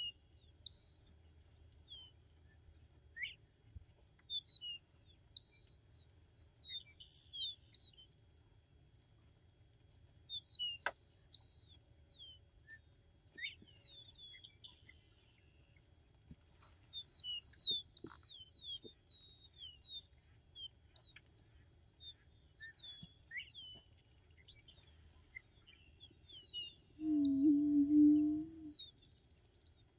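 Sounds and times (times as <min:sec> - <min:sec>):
small songbirds chirping: 0:00.0 - 0:09.4, 0:10.2 - 0:29.9.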